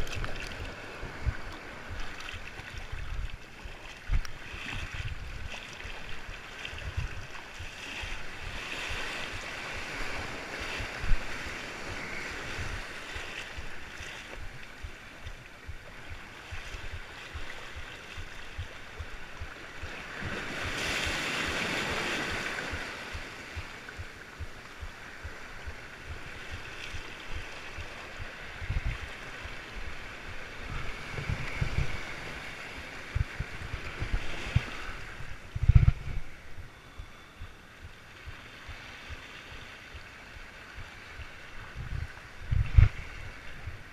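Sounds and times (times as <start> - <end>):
waves sloshing against rocks: 0.0 - 36.8
wind buffeting microphone: 0.0 - 43.9.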